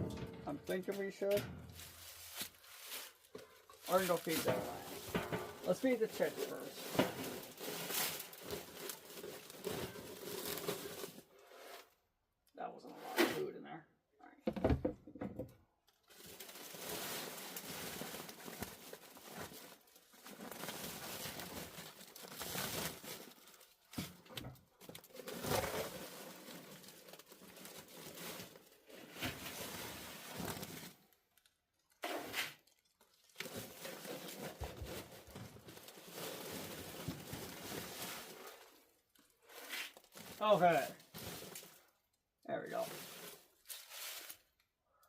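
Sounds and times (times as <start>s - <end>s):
feed bag rustling and crinkling: 0.6s - 11.6s, 16.0s - 31.5s, 32.6s - 42.0s, 42.6s - 44.6s.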